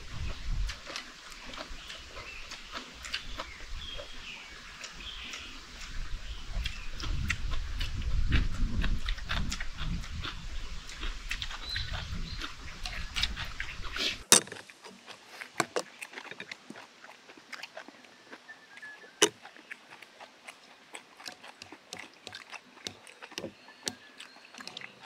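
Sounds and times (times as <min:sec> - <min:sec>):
noodles slurped and chewed: 0:00.0 - 0:25.0.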